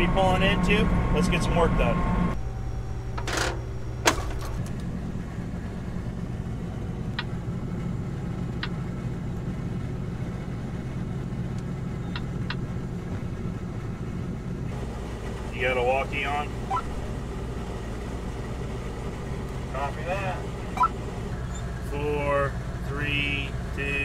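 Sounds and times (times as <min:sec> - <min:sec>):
engine drone inside cab: 0:00.0 - 0:24.0.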